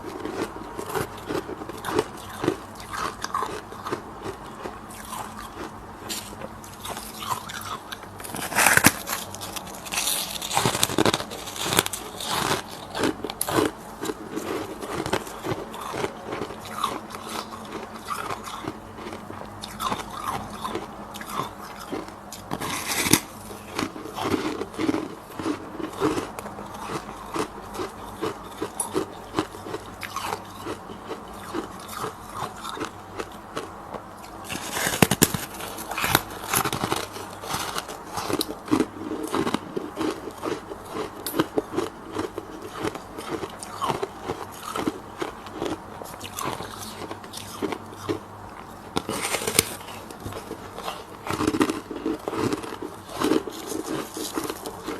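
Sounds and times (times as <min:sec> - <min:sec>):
person chewing frost crunching: 0:00.0 - 0:54.9.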